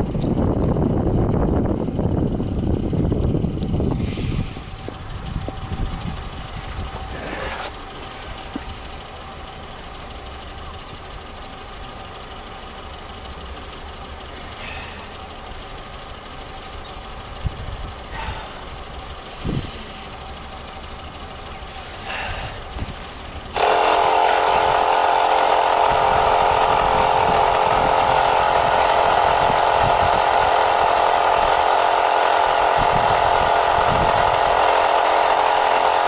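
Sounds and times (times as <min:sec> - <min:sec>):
motor running with faint whine: 0:00.0 - 0:36.0.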